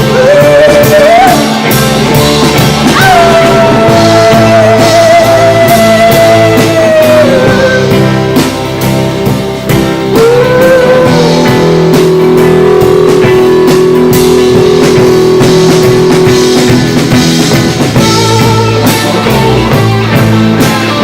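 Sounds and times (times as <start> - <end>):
lead guitar long held note: 0.0 - 8.8, 9.7 - 21.0
live rock band playing: 0.0 - 21.0
steady drum beat: 0.0 - 21.0.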